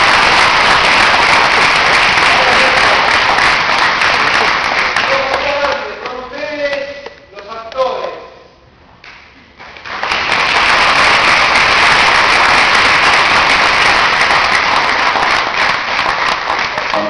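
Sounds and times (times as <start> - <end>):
audience applauding: 0.0 - 6.8, 9.6 - 17.0.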